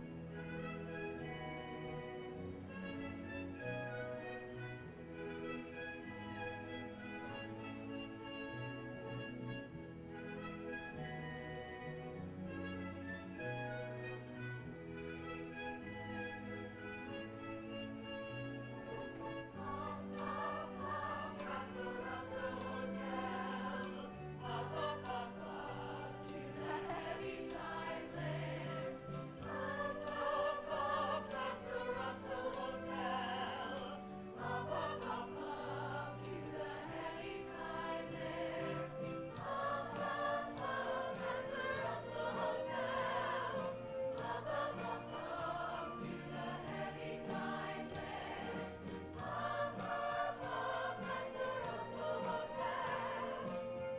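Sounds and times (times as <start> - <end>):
chorus singing in harmony: 0.0 - 53.9
sustained low accompaniment notes: 0.0 - 53.9.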